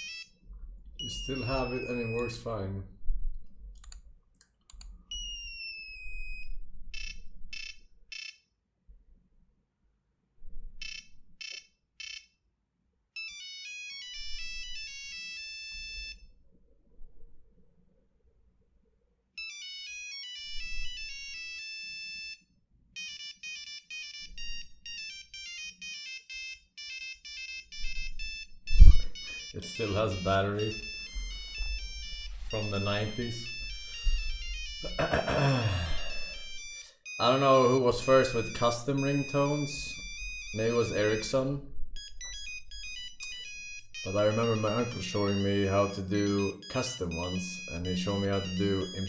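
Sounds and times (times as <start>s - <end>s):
monophonic phone ringtones: 0.0s - 0.4s, 1.0s - 2.5s, 5.0s - 8.4s, 10.8s - 12.3s, 13.2s - 16.3s, 19.4s - 49.0s.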